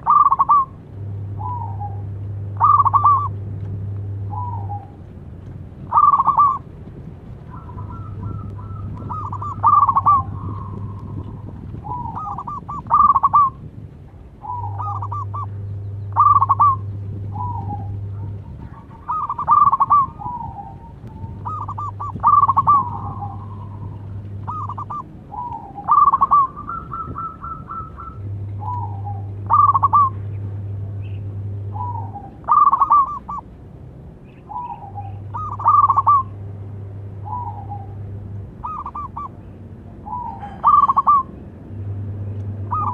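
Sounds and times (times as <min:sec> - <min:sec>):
dove cooing: 0:00.0 - 0:03.4, 0:04.1 - 0:05.0, 0:05.8 - 0:06.7, 0:07.4 - 0:13.6, 0:14.4 - 0:33.5, 0:34.4 - 0:36.4, 0:37.1 - 0:41.4, 0:42.6 - 0:42.9.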